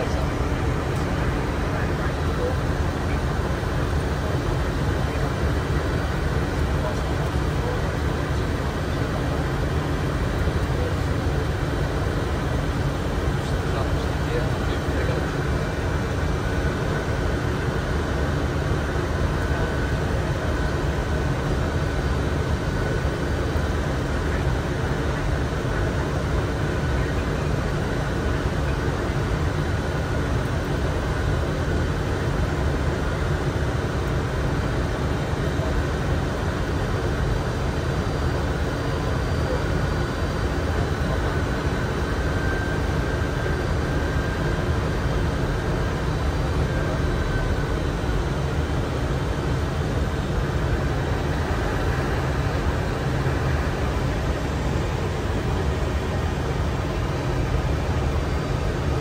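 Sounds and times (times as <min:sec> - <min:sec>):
cockpit airflow and engine noise: 0:00.0 - 0:59.0.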